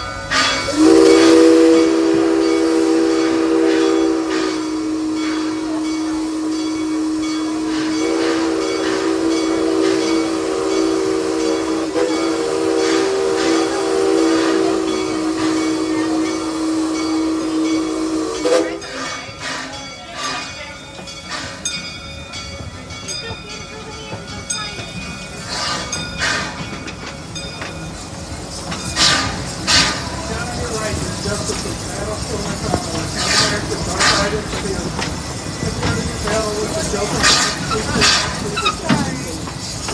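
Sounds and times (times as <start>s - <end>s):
steam locomotive chime whistle: 0.0s - 39.9s.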